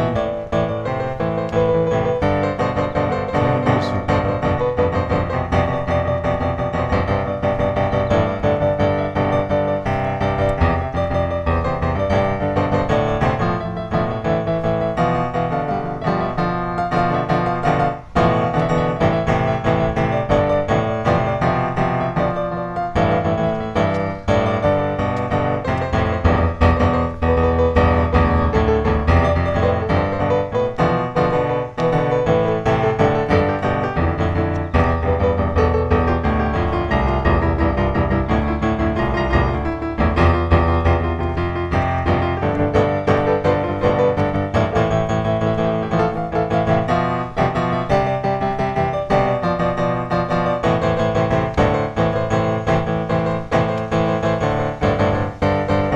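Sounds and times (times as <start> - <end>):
background piano music: 0.0 - 55.9.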